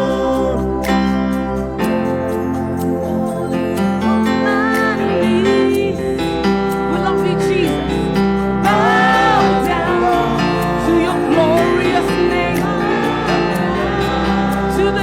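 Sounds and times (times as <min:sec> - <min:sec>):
person singing: 0:00.0 - 0:02.3, 0:03.0 - 0:15.0
sustained band chords: 0:00.0 - 0:15.0.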